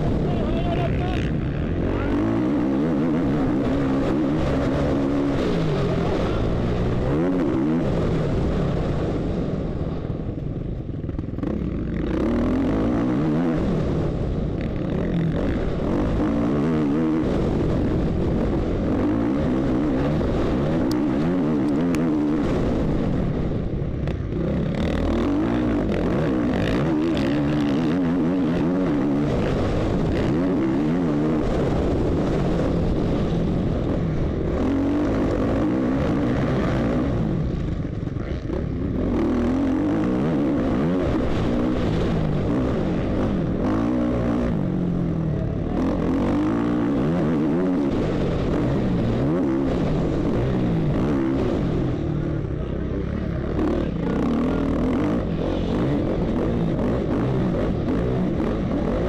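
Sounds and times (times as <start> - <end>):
motocross bike engine revving: 0.0 - 9.4, 10.9 - 59.0.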